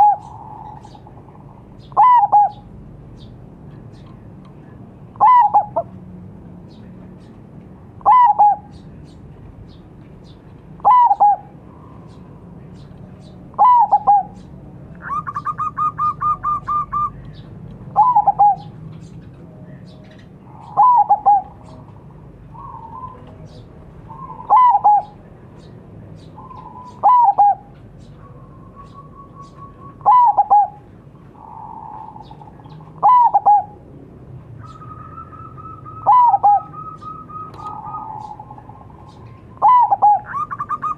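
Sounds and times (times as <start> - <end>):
dove calling: 0.0 - 4.2, 5.1 - 6.0, 6.7 - 33.9, 34.5 - 40.9.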